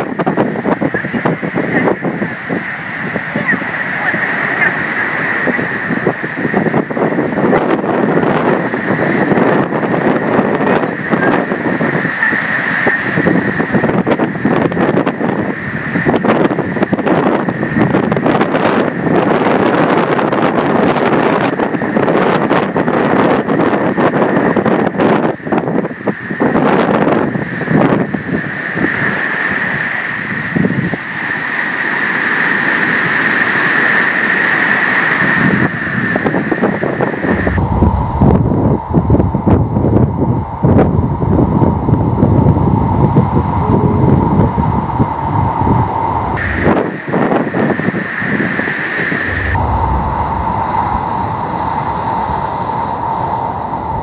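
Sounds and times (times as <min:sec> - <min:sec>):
steady rushing hiss: 0:00.0 - 0:54.0
wind blowing across microphone: 0:00.0 - 0:54.0.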